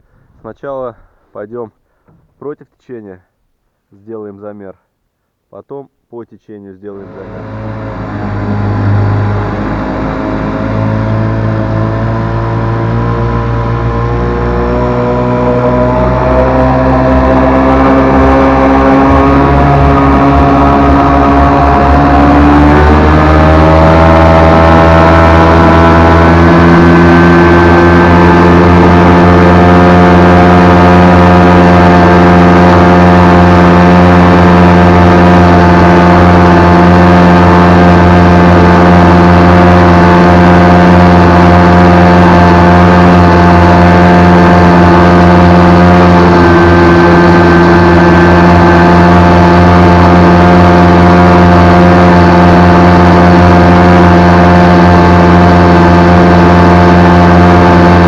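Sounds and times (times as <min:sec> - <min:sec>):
outboard motor running: 0:07.0 - 0:58.0.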